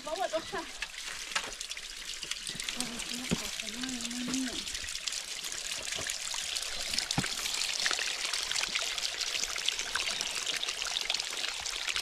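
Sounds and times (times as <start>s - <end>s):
water splashing over rocks: 0.0s - 12.0s.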